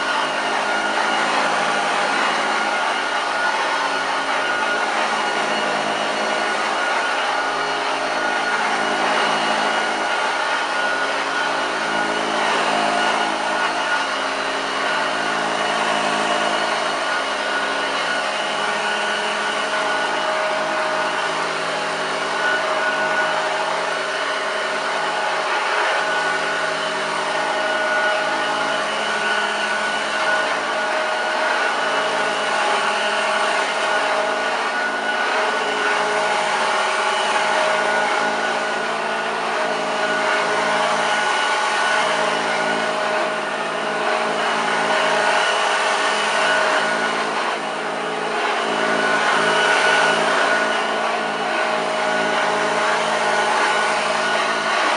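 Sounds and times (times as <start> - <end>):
vacuum cleaner whining: 0.0 - 54.9.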